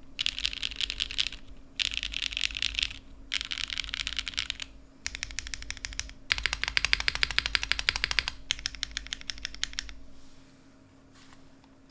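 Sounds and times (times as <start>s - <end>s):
fast keyboard typing: 0.2s - 10.0s.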